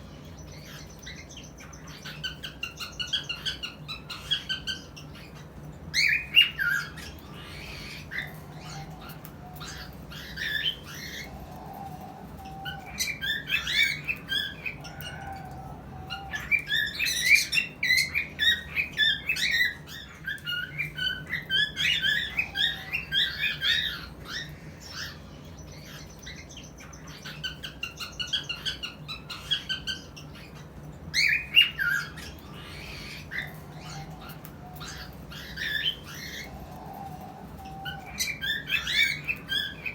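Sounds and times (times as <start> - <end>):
cockatiels chirping and squawking: 0.0 - 39.9
faint low hum: 0.0 - 39.9.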